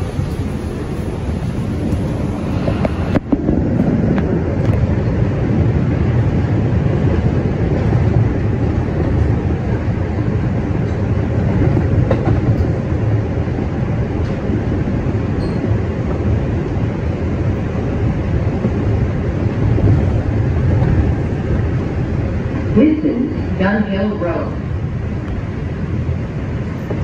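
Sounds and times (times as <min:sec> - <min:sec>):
subway wheels rumbling on rails: 0:00.0 - 0:27.0.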